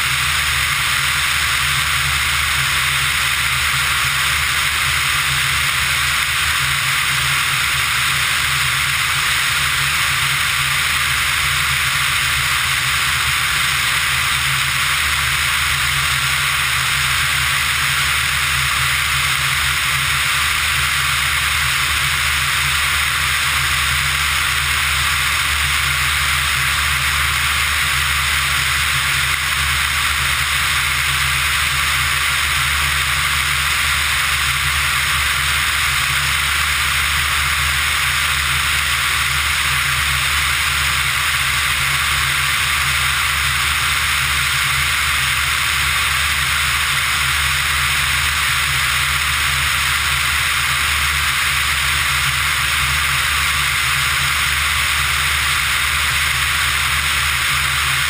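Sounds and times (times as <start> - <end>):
aircraft engine and propeller droning: 0.0 - 58.0.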